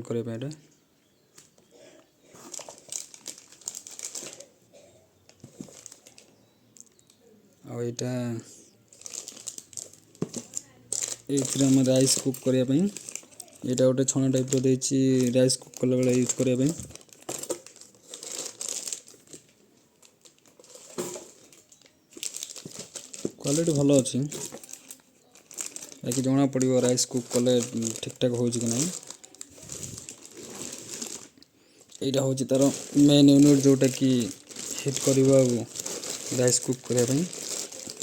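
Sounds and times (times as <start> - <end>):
packaging crinkling: 2.2 - 4.6, 5.2 - 7.1, 8.9 - 38.0.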